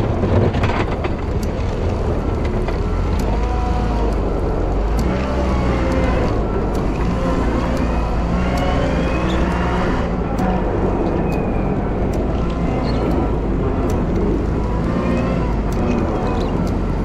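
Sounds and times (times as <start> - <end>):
diesel engine running under load: 0.0 - 17.0
engine whine: 0.0 - 17.0
light ticking: 0.0 - 17.0.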